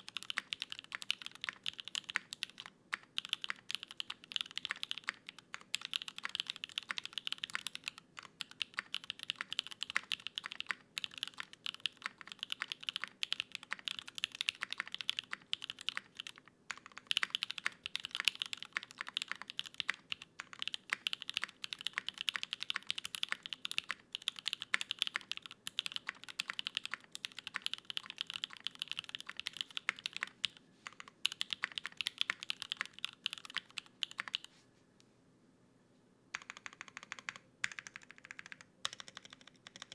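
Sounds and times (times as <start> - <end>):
fast typing on mechanical keyboard: 0.0 - 34.5, 36.4 - 39.9.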